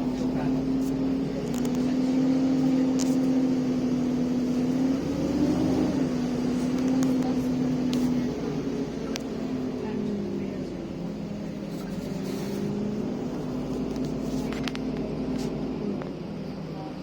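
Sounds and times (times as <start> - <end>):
bus engine under hard throttle: 0.0 - 17.0.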